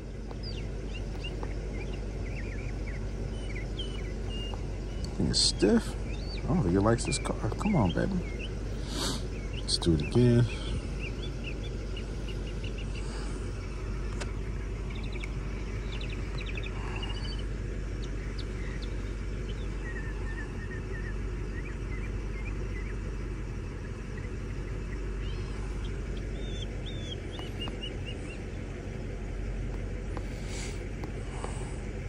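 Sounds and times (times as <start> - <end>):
car engine idling: 0.0 - 32.0
small birds chirping: 0.0 - 32.0.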